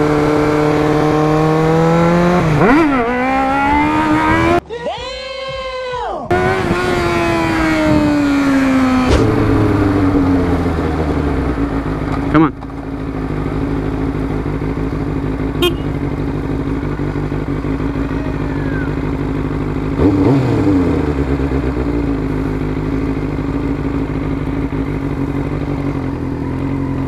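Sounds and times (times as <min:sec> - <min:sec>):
motorcycle engine running: 0:00.0 - 0:04.6, 0:06.3 - 0:27.0.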